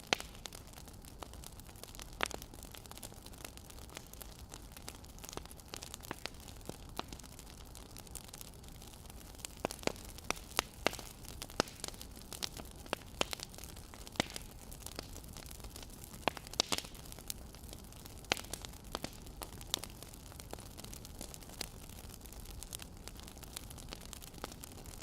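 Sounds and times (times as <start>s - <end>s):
soft steady hiss: 0.0s - 25.0s
wood fire popping and snapping: 0.0s - 25.0s.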